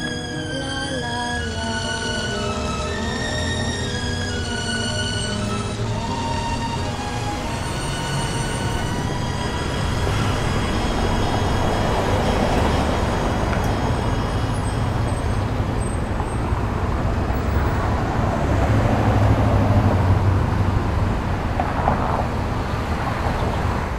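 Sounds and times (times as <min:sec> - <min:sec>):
road traffic rumble: 0:00.0 - 0:23.9.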